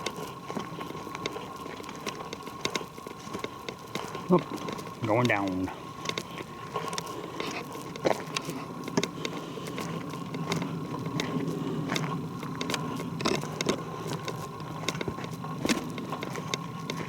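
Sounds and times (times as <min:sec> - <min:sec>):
footsteps on forest floor: 0:00.0 - 0:17.0.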